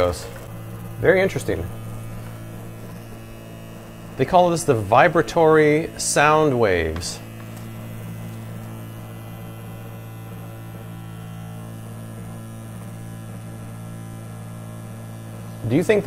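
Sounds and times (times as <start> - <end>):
mini dishwasher electric hum: 0.0 - 16.0.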